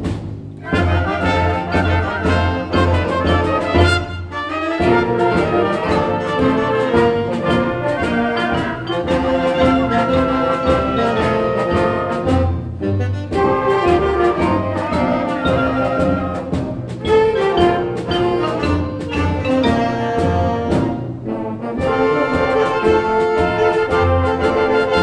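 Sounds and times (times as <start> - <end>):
concert band playing: 0.0 - 25.0
percussion strokes: 0.0 - 25.0
trumpets and trombones: 0.6 - 25.0.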